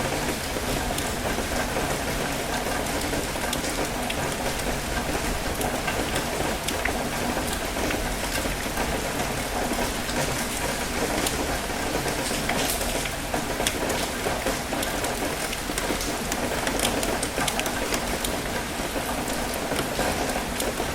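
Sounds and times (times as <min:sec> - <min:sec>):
steady rain falling: 0:00.0 - 0:20.9
raindrops ticking: 0:00.3 - 0:20.9.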